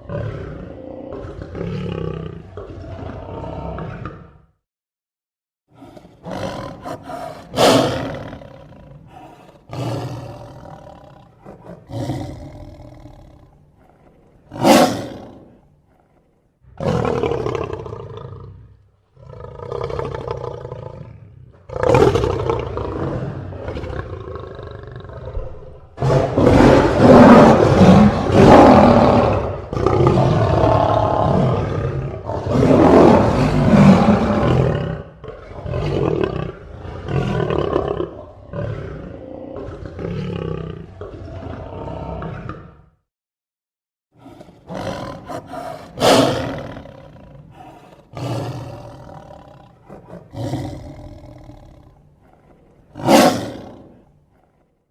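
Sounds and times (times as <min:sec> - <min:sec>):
lion roaring and grunting: 0:00.0 - 0:04.6, 0:05.7 - 0:43.0, 0:44.2 - 0:54.9.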